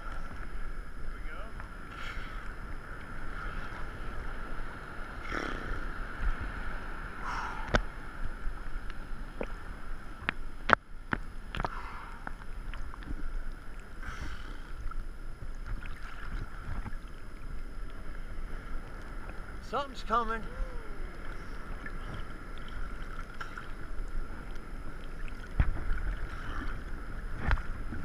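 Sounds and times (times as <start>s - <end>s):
waves lapping and sloshing: 0.0s - 28.0s.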